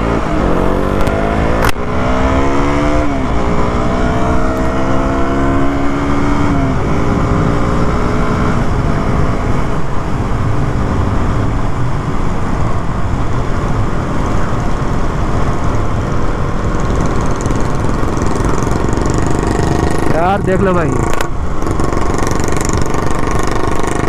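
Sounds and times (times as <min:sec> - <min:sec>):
motorcycle engine accelerating: 0:00.0 - 0:24.0
wind and road noise: 0:00.0 - 0:24.0.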